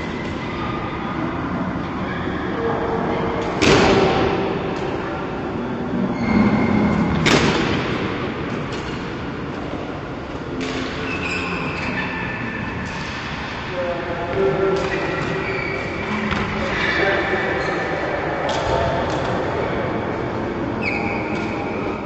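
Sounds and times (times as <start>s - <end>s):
indoor hall rumble: 0.0s - 22.0s.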